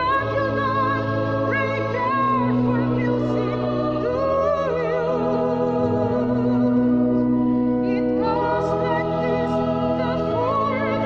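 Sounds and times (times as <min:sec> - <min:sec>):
person singing with vibrato: 0:00.0 - 0:11.0
sustained organ-like chords: 0:00.0 - 0:11.0.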